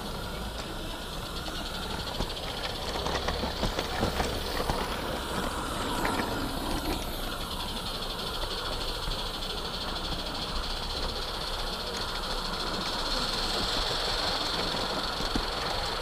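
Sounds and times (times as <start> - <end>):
steam locomotive hissing: 0.0 - 16.0
wagon wheels clicking over track: 0.0 - 16.0.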